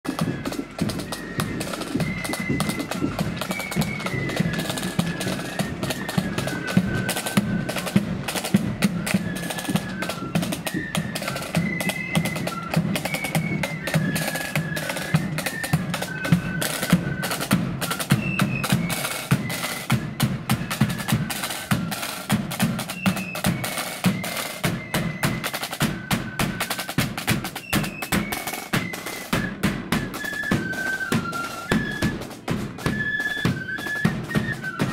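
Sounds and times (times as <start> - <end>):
snare drum rolls: 0.0 - 34.9
flutes playing melody: 0.1 - 34.9.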